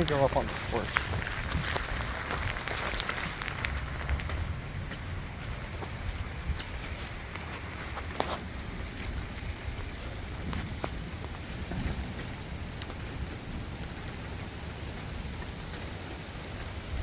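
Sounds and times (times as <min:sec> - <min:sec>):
heavy rain pouring: 0:00.0 - 0:17.0
raindrops tapping nearby: 0:00.0 - 0:17.0.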